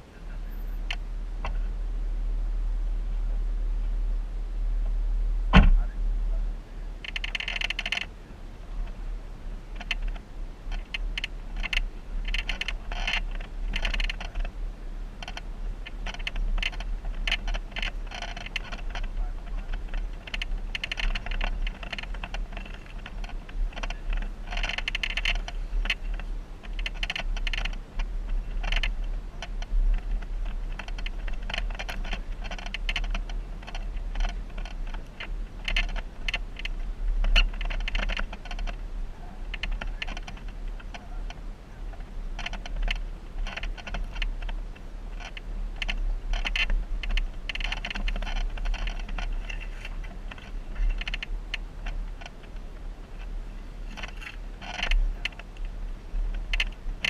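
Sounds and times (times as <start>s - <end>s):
vehicle clattering and rattling: 0.0s - 4.2s, 4.8s - 57.0s
vehicle engine deep rumble: 0.0s - 57.0s.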